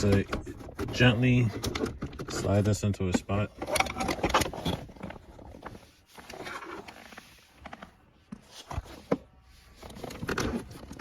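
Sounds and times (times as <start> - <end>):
plastic trim scraping: 0.0 - 11.0.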